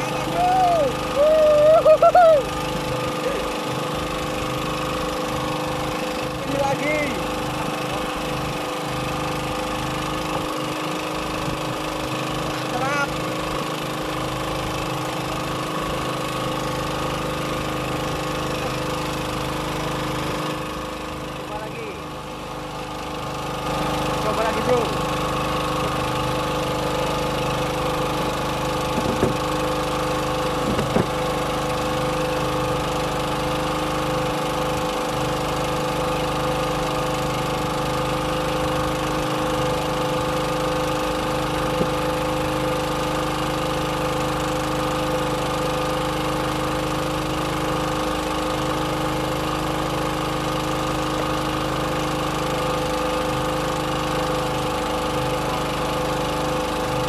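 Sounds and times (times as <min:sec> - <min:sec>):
boat engine idling: 0:00.0 - 0:57.0.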